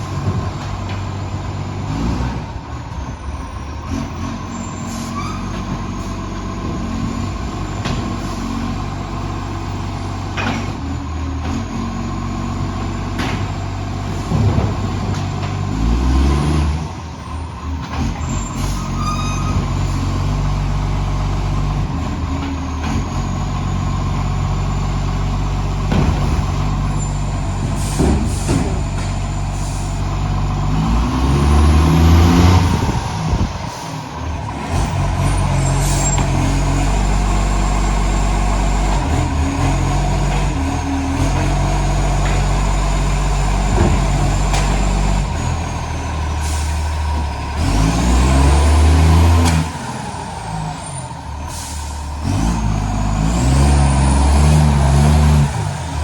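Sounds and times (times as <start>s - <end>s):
diesel engine with exhaust leak: 0.0s - 56.0s.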